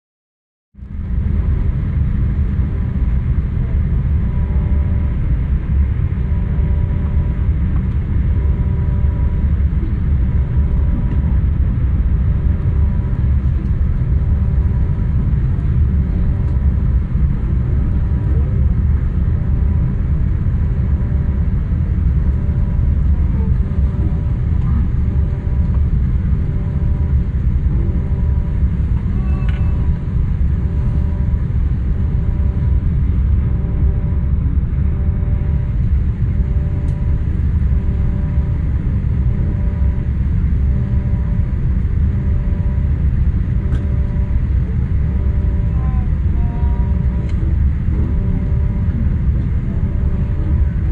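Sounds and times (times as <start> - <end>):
faint steady hums: 0.8 - 50.9
jet engines rumbling: 0.9 - 50.9.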